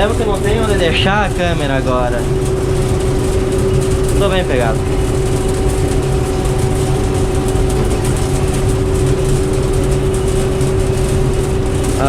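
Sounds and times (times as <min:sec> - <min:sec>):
engine rumble: 0:00.0 - 0:12.0
machinery hum: 0:00.0 - 0:12.0.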